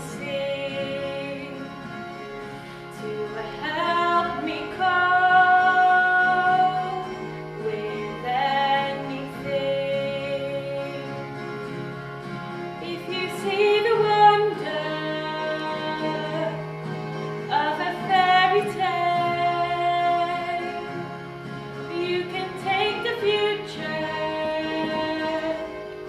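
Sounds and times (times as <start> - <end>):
woman singing: 0.0 - 1.9, 2.9 - 11.2, 12.8 - 16.6, 17.5 - 21.0, 21.9 - 26.0
instrumental accompaniment: 0.0 - 26.0.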